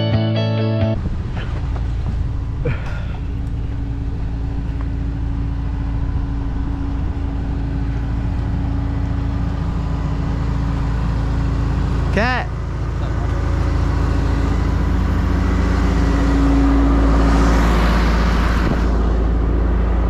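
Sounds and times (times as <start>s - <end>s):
vehicle engine and road noise: 0.0s - 20.0s
constant hum: 1.0s - 20.0s.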